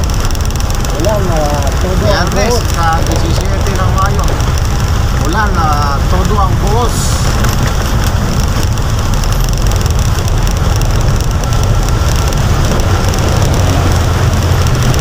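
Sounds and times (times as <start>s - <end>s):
engine and tyres rumbling: 0.0s - 15.0s
heavy rain on vehicle: 0.0s - 15.0s.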